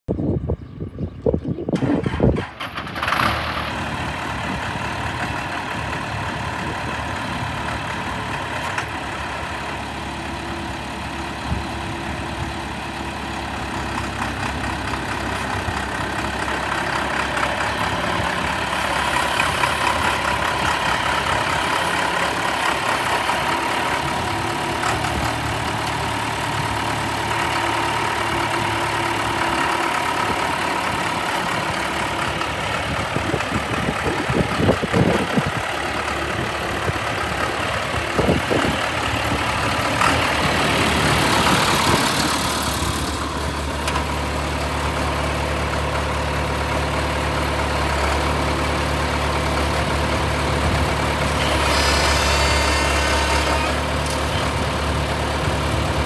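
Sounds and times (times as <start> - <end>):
tractor engine starting and idling: 0.2 - 56.0.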